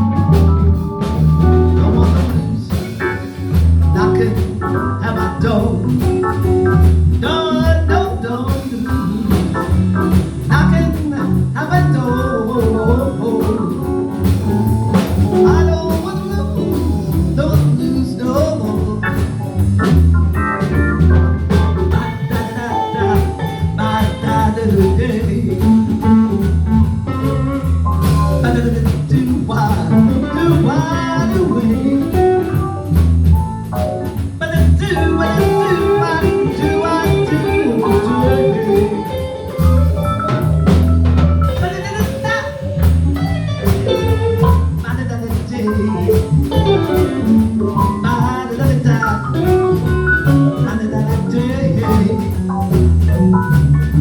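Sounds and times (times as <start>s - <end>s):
blues band playing: 0.0s - 54.0s
person singing: 1.3s - 3.3s, 3.9s - 20.0s, 21.5s - 32.7s, 34.2s - 52.8s.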